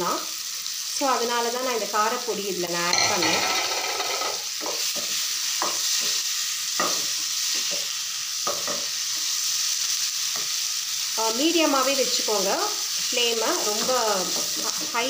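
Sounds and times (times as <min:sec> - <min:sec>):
paneer sizzling in pan: 0:00.0 - 0:15.0.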